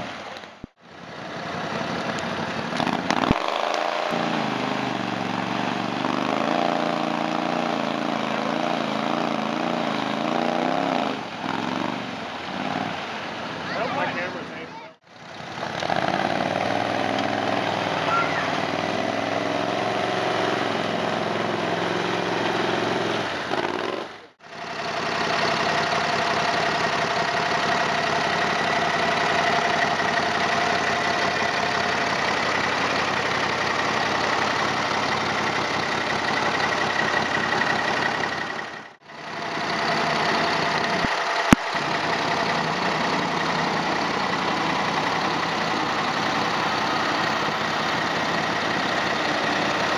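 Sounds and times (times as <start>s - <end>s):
small engines running: 0.0s - 49.9s.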